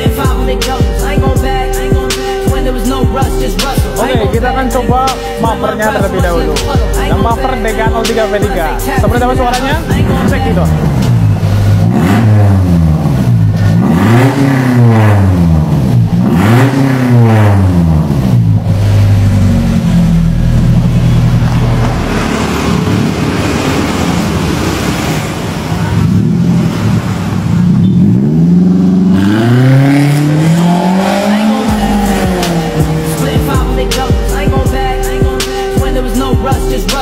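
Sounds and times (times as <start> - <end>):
van engine revving: 0.0 - 37.0.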